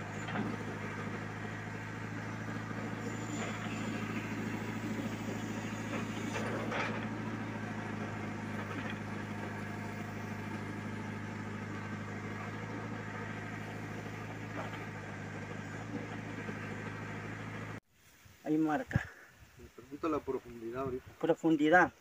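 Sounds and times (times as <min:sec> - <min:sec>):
diesel engine running: 0:00.0 - 0:17.8.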